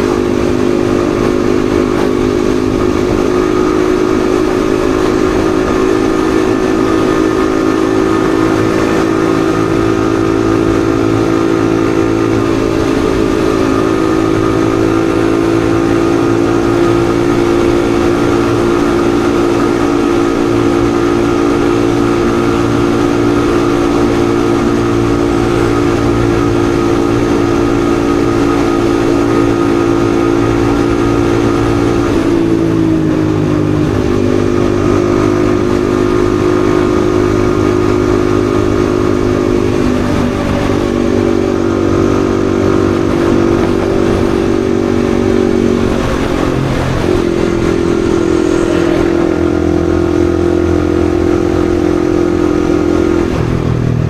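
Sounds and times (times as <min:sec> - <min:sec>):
motorcycle engine running: 0:00.0 - 0:54.0
rushing wind noise: 0:00.0 - 0:54.0.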